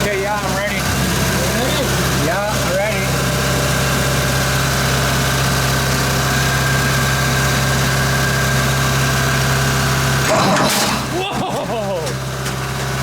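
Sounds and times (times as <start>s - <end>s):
machine droning: 0.0s - 13.0s.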